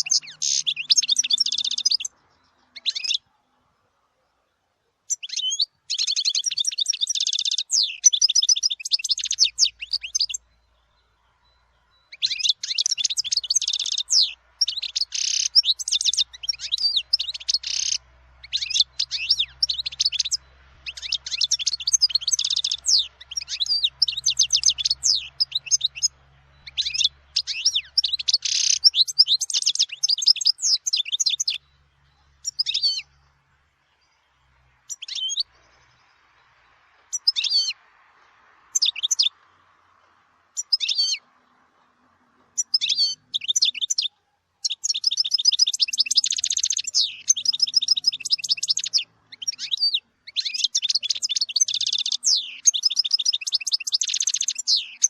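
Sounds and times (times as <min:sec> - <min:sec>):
goldfinch twittering song: 0:00.0 - 0:03.9, 0:05.0 - 0:55.0
short bird calls: 0:00.0 - 0:36.3, 0:37.0 - 0:55.0.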